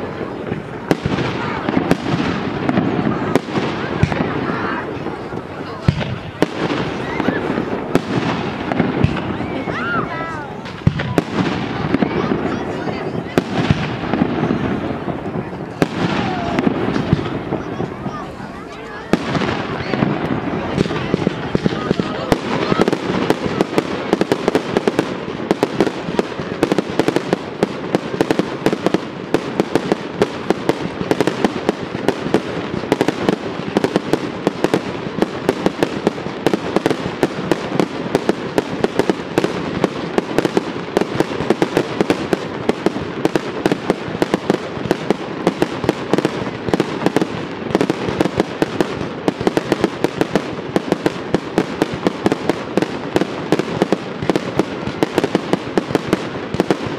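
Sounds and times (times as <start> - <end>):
fireworks bursts banging: 0.0 - 56.9.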